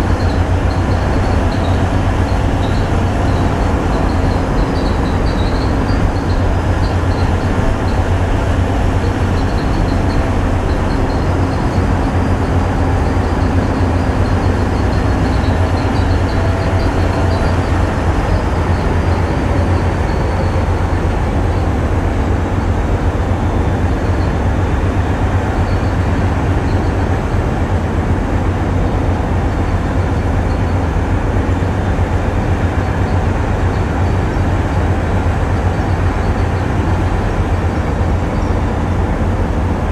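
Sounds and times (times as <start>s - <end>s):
diesel engines rumbling: 0.0s - 39.9s.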